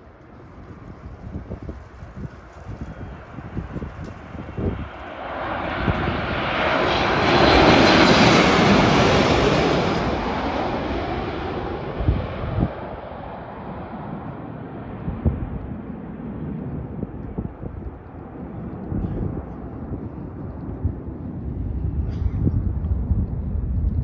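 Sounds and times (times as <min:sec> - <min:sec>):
jet airliner passing: 0:00.0 - 0:24.0.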